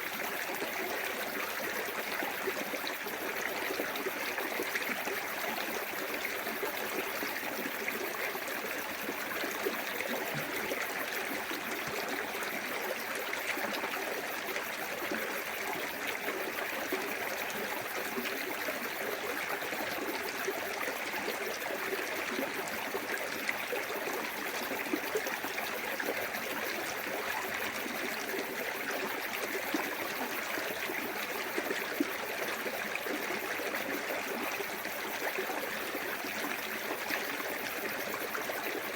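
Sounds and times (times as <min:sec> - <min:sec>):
water trickling and gurgling: 0:00.0 - 0:38.9.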